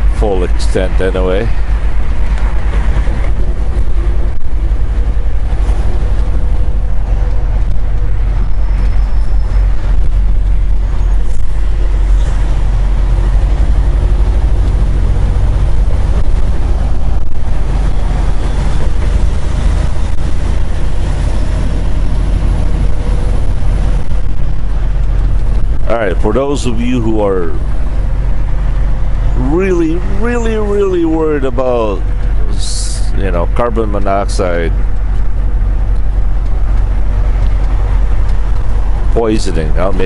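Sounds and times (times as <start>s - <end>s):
road noise: 0.0s - 40.0s
truck diesel engine rumble: 0.0s - 40.0s.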